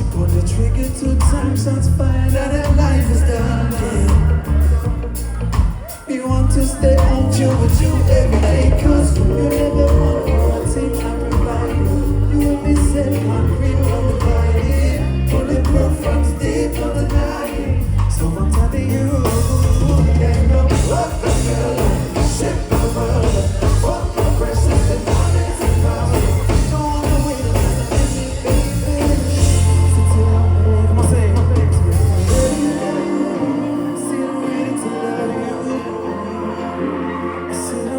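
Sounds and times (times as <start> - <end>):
drums: 0.0 - 33.5
heavy bass line: 0.0 - 34.1
live band playing reggae-pop: 0.0 - 37.9
person singing: 0.0 - 37.9.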